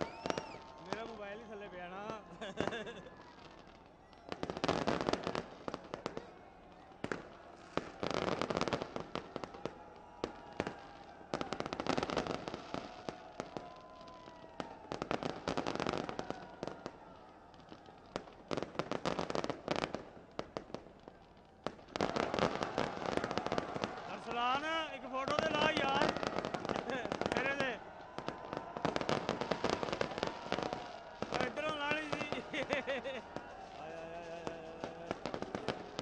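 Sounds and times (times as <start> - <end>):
fireworks crackling bangs: 0.0 - 36.0.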